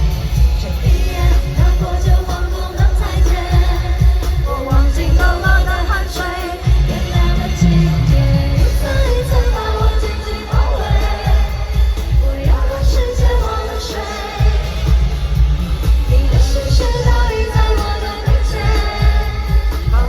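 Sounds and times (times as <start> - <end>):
heavy electronic beat: 0.0 - 20.0
woman singing: 0.0 - 20.0.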